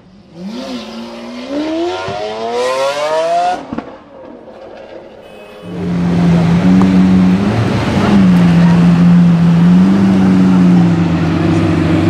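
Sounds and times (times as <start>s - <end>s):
car engine revving: 0.2s - 4.0s, 5.6s - 12.0s.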